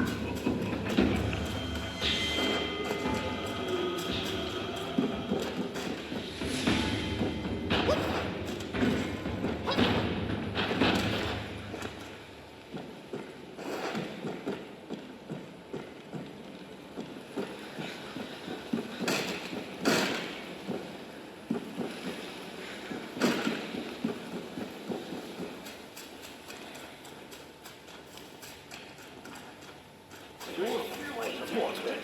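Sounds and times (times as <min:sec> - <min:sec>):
steady background noise: 0:00.0 - 0:32.0.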